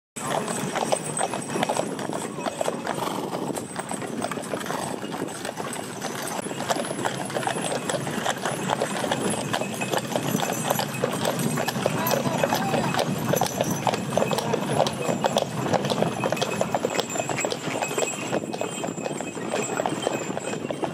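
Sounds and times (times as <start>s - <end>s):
horse hoof steps: 0.2s - 20.9s.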